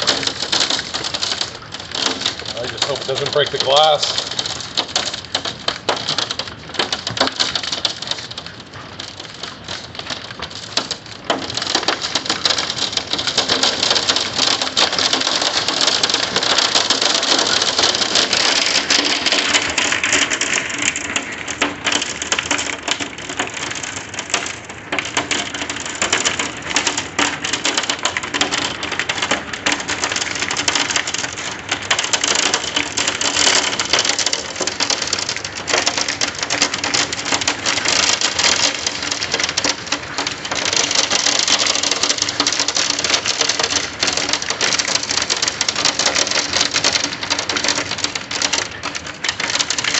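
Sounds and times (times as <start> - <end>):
hail and rain on window glass: 0.0 - 49.9.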